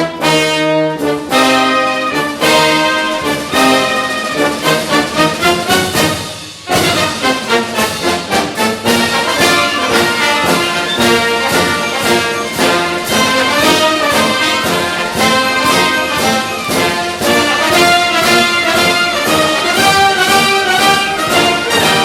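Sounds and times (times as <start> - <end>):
brass-led orchestral music: 0.0 - 22.0.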